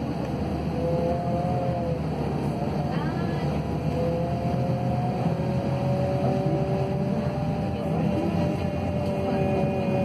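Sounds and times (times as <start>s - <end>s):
bus engine low rumble: 0.0s - 10.0s.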